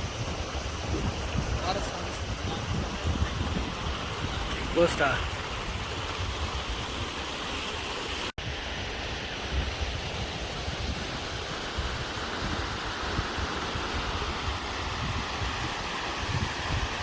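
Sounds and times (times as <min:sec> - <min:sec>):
wind buffeting microphone: 0:00.0 - 0:07.7, 0:08.4 - 0:17.0
waterfall rushing: 0:00.0 - 0:17.0.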